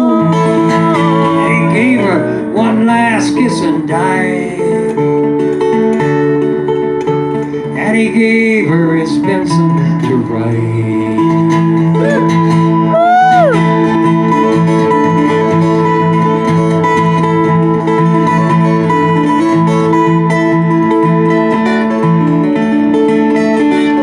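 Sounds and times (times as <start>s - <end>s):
acoustic guitar picking: 0.0s - 24.0s.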